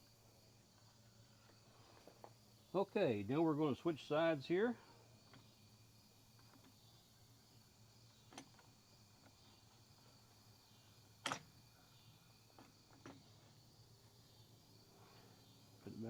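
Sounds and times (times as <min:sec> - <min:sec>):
insect chirring: 0:00.0 - 0:16.0.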